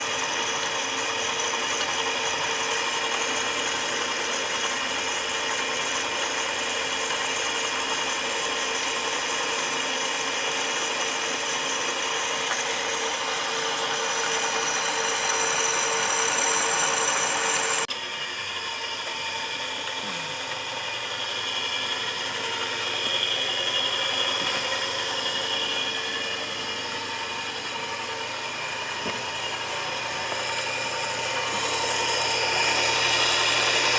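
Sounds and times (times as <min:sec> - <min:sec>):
drill press motor hum and whine: 0:00.0 - 0:33.9.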